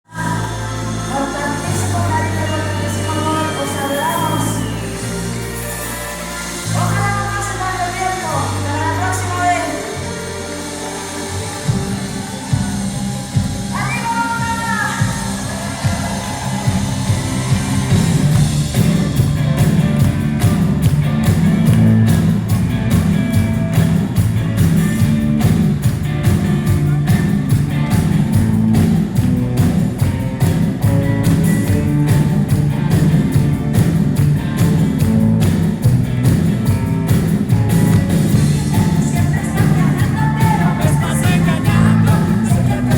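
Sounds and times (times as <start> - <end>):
rock band playing: 0.2 - 42.9.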